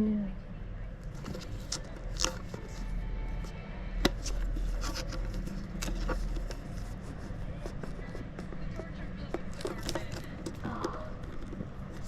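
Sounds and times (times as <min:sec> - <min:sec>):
steady low hum: 0:00.0 - 0:12.0
packaging and cards rustling: 0:01.0 - 0:08.8, 0:09.4 - 0:12.0.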